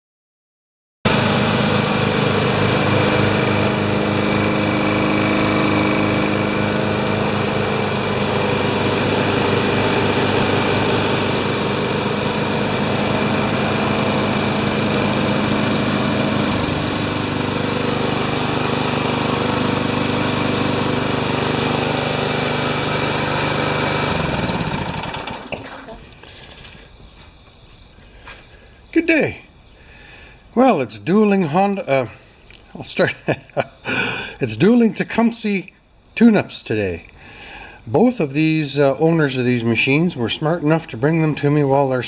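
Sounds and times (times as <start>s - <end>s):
lawn mower engines pulsing: 1.1s - 26.9s, 30.0s - 42.0s.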